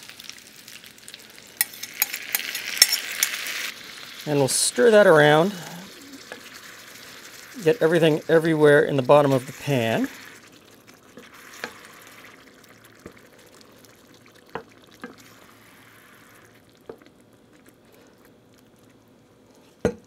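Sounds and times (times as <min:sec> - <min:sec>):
faint sizzle: 0:00.0 - 0:20.0.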